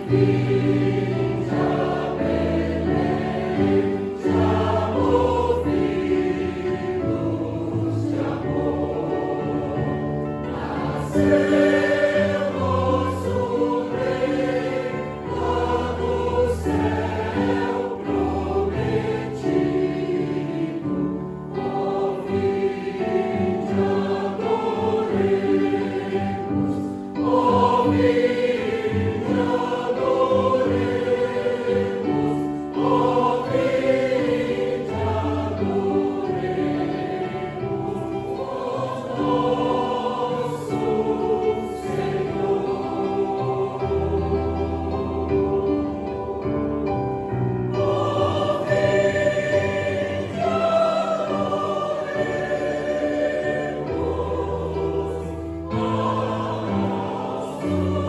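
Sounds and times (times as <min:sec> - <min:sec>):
mixed choir singing: 0:00.0 - 0:58.0.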